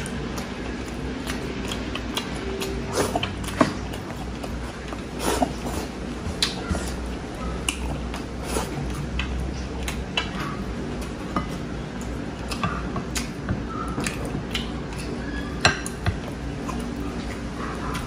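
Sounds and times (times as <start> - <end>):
man chewing with mouth clicks: 0.0 - 18.0
steady low hum: 0.0 - 18.0.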